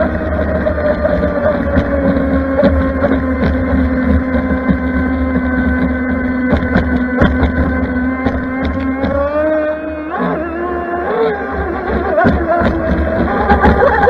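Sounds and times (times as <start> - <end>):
electric motor whining: 0.0 - 14.0
wind rushing over microphone: 0.0 - 14.0.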